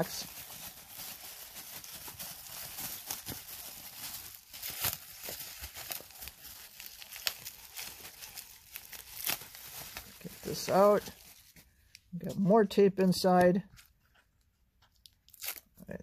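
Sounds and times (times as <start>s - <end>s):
bubble wrap crinkling and snapping: 0.0s - 12.1s, 13.7s - 16.0s.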